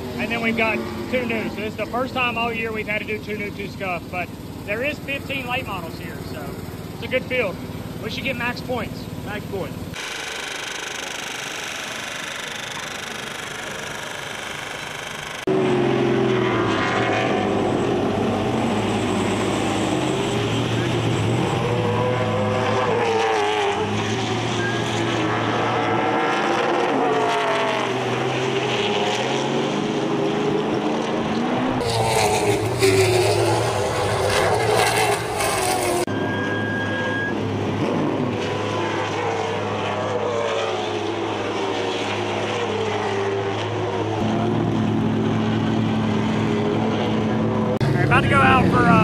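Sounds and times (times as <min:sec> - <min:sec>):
race car engines passing: 0:00.0 - 0:09.9, 0:13.1 - 0:49.0.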